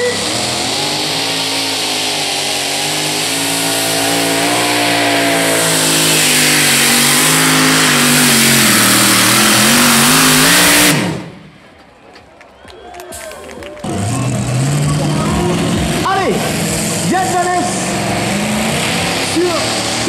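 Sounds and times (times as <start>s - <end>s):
tractor engine at full throttle: 0.0s - 11.7s, 13.8s - 20.0s.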